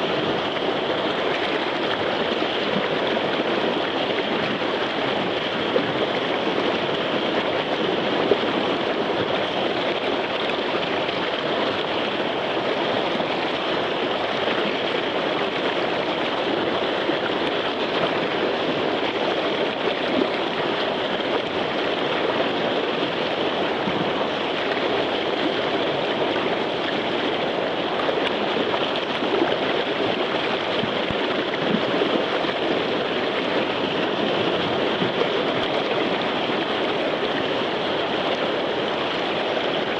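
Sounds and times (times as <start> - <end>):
river rapid rushing: 0.0 - 39.9.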